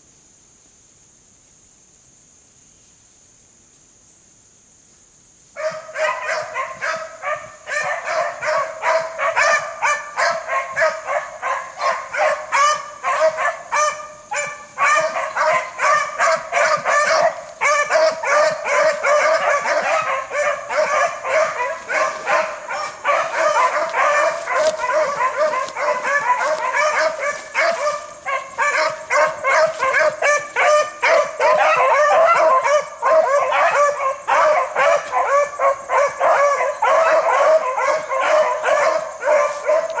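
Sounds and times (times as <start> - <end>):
hounds baying and yelping: 5.6 - 40.0.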